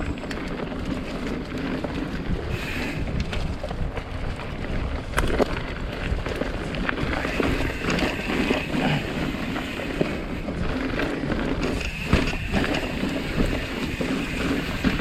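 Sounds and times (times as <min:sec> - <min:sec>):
bike knocking and rattling: 0:00.0 - 0:15.0
tyres rolling over dirt: 0:00.0 - 0:15.0
wind on microphone: 0:02.0 - 0:15.0.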